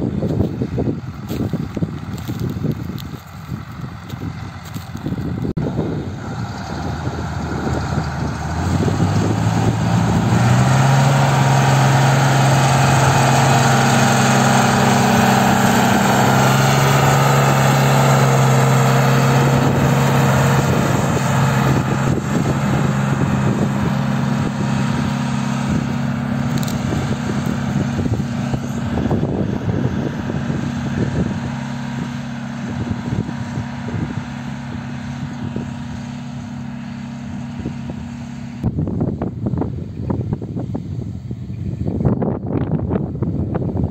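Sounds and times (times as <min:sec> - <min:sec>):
tractor diesel engine droning: 0:00.0 - 0:43.9.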